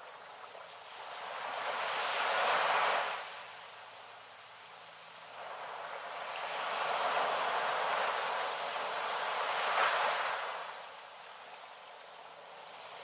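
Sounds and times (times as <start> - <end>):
wave washing on sandy beach: 0.0 - 13.0.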